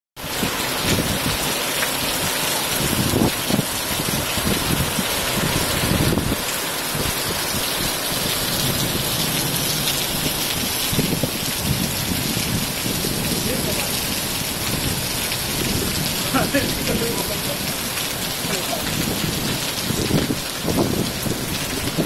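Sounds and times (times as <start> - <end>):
heavy rain on paving and foliage: 0.2 - 22.0.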